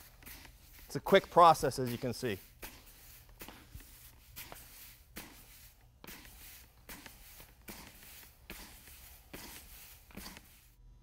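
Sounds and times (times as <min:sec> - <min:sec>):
grains landing with rustling hiss: 0:00.9 - 0:10.6.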